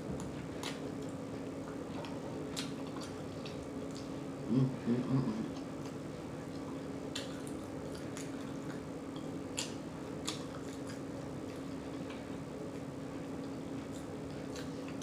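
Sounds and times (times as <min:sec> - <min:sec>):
steady low hum: 0:00.0 - 0:15.0
chewing with wet mouth smacks: 0:00.2 - 0:04.5, 0:05.4 - 0:15.0.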